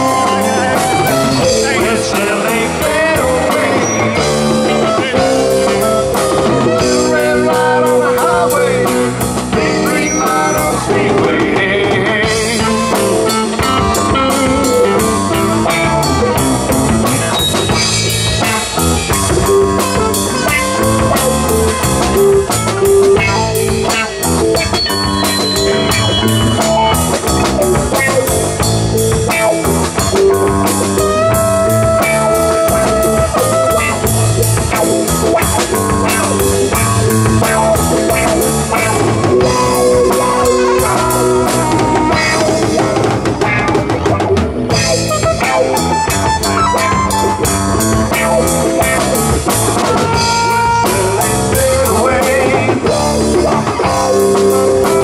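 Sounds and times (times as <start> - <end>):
drum kit beat: 0.0 - 55.0
electric guitars: 0.0 - 55.0
lead guitar bending notes: 0.0 - 55.0.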